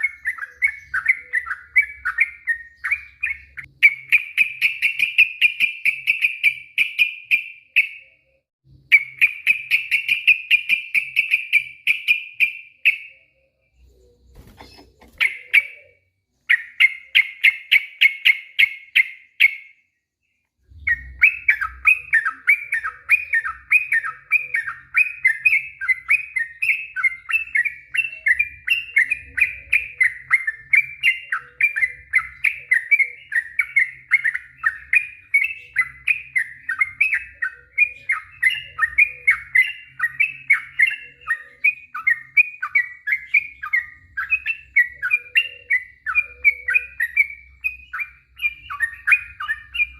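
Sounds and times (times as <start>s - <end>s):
bird singing rapid song: 0.0s - 49.9s.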